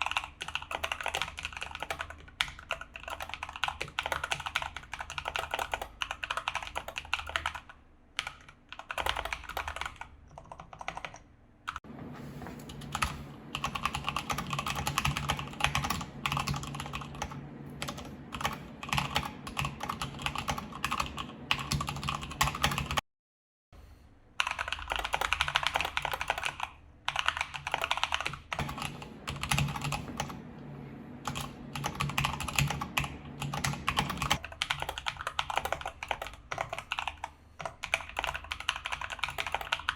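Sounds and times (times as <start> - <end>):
mechanical keyboard typing: 0.0 - 11.8, 12.6 - 23.0, 24.4 - 30.6, 31.2 - 39.9.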